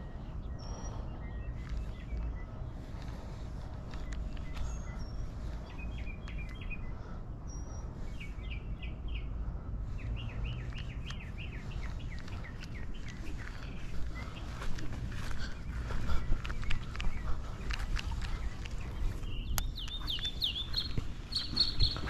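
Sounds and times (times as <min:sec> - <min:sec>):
small birds chirping: 0:00.0 - 0:22.0
wind rumble on microphone: 0:00.0 - 0:22.0.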